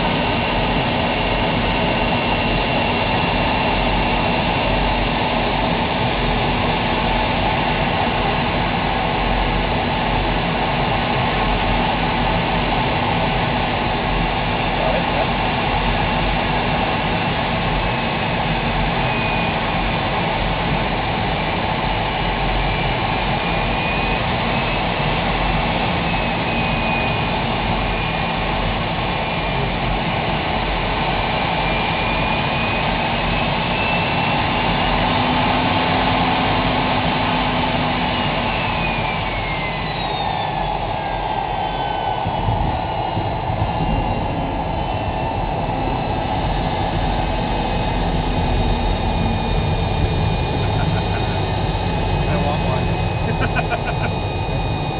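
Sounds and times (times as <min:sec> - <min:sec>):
jet engine roar with whine: 0:00.0 - 0:54.9.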